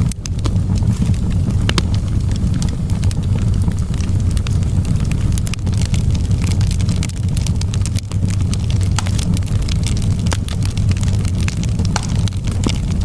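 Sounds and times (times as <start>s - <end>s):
steady low rumble: 0.0s - 13.0s
wood fire crackling: 0.0s - 13.0s.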